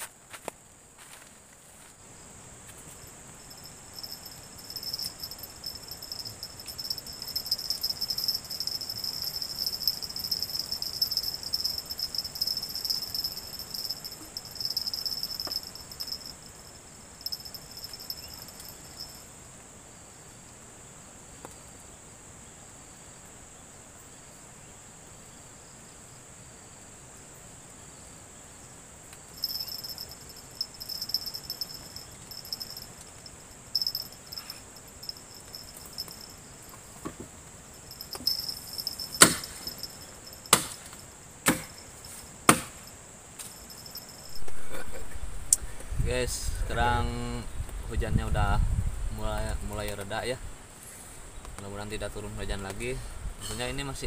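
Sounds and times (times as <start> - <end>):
insects trilling: 0.0 - 21.8, 27.8 - 54.0.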